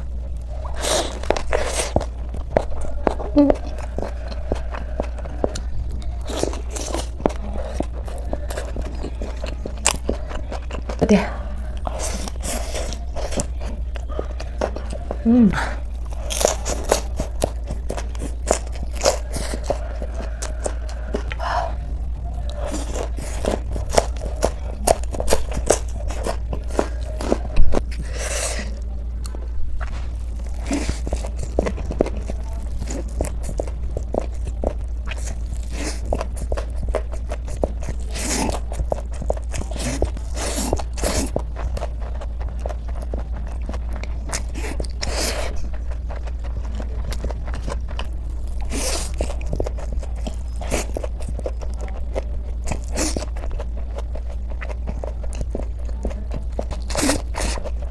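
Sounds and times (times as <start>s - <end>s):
crunchy bites and chewing: 0.0s - 57.9s.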